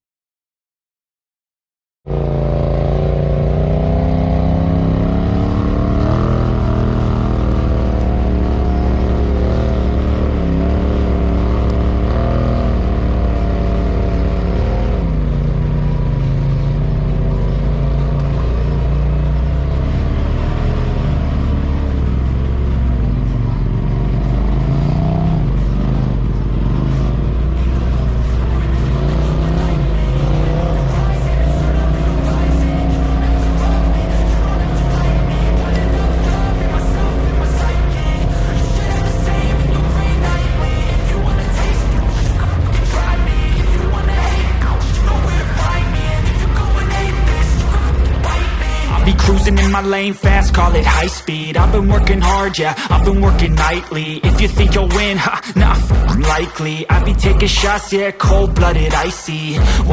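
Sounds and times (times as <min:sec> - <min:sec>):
off-road vehicle engine revving: 0:02.1 - 0:59.9.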